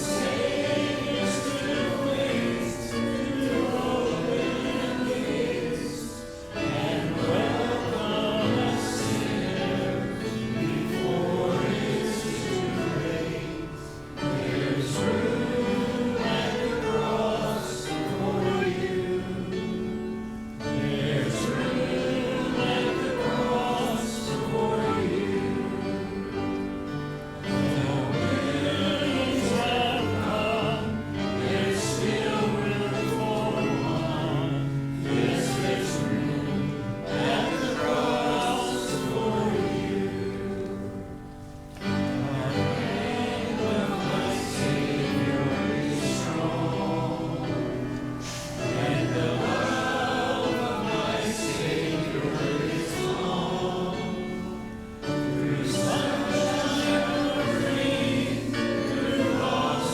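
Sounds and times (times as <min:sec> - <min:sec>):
congregation singing a hymn: 0:00.0 - 0:59.9
musical accompaniment: 0:00.0 - 0:59.9.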